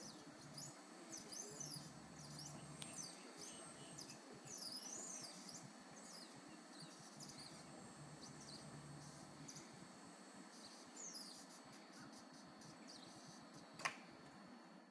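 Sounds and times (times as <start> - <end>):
electric actuators whining: 0.0 - 14.5.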